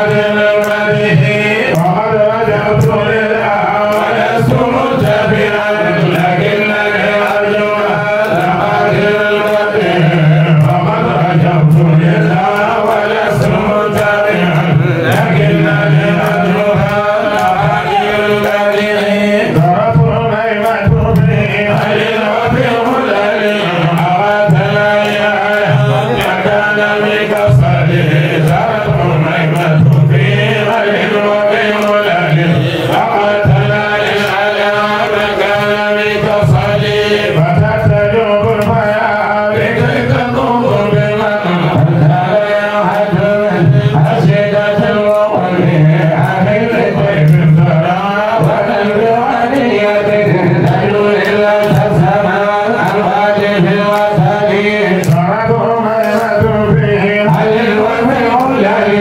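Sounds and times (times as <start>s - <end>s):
person chanting a devotional song: 0.0s - 59.0s.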